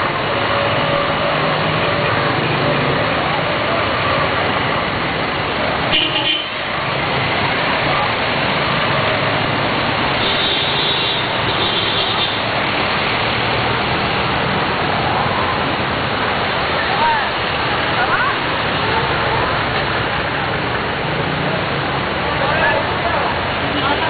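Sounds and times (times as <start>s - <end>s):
vehicles driving through floodwater: 0.0s - 24.0s.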